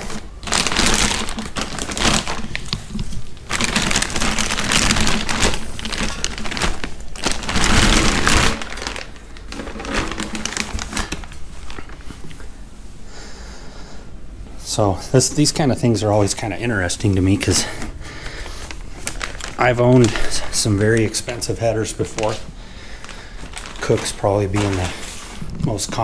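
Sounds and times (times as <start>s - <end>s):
handling noises: 0.0s - 12.6s, 16.3s - 26.0s
plastic bag crinkling: 0.0s - 12.6s, 15.4s - 26.0s.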